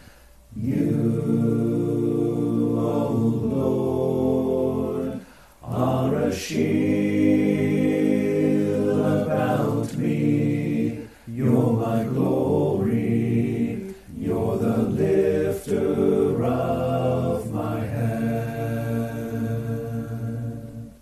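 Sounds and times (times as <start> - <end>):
layered a cappella singing: 0.0 - 21.0.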